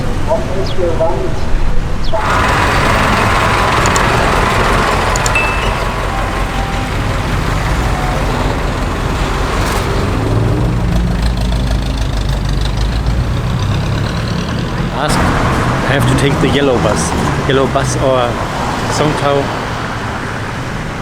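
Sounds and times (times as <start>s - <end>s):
street traffic: 0.0s - 21.0s
heavy vehicle engine droning: 2.1s - 21.0s.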